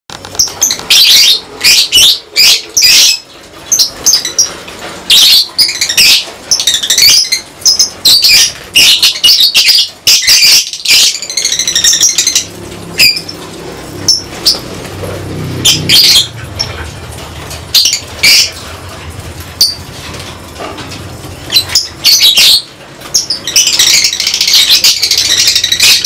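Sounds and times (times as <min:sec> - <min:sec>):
lovebirds chattering and squawking: 0:00.2 - 0:18.8, 0:20.7 - 0:26.0.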